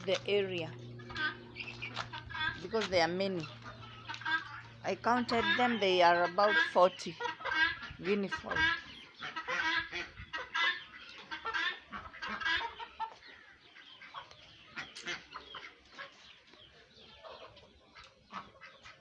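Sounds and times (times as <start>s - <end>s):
guinea fowl and chickens cackling: 0.0s - 19.0s.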